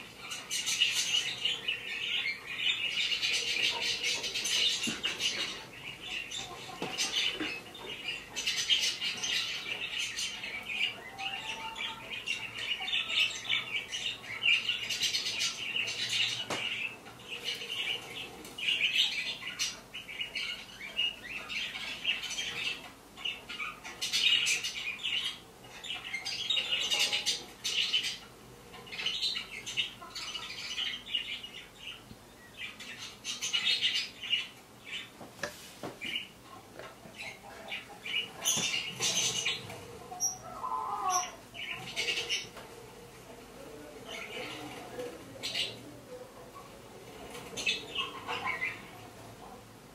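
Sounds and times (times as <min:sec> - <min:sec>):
parrots chattering and squawking: 0:00.0 - 0:32.0, 0:36.0 - 0:49.7.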